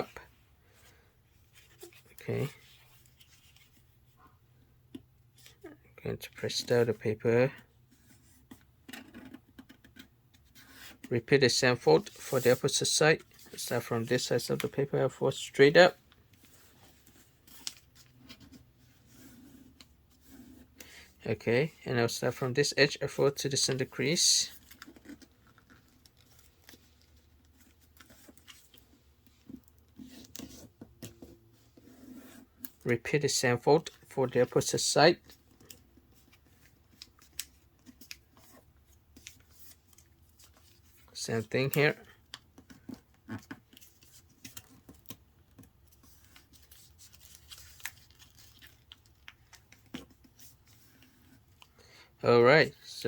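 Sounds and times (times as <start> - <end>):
paper rustling and being folded: 0.7 - 4.4, 5.2 - 53.0.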